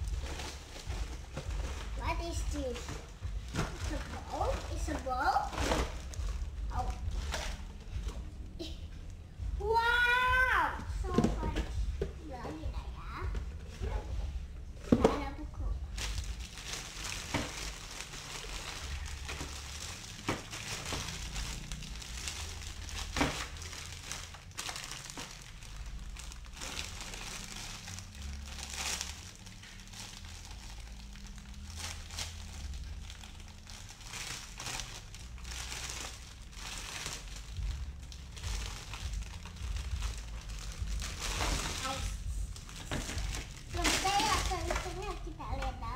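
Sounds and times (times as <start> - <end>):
plastic bag crinkling: 0.0 - 8.9, 15.8 - 45.8.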